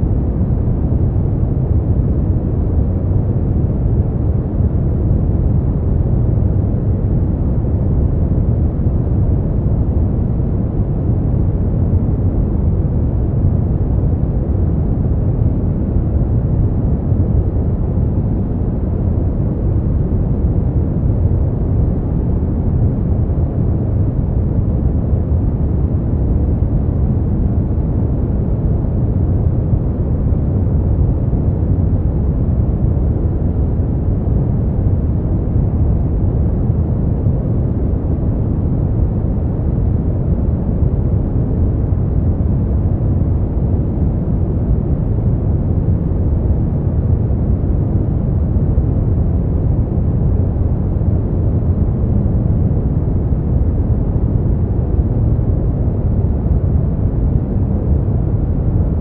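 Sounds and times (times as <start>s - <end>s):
brown noise rumbling hiss: 0.0s - 59.0s.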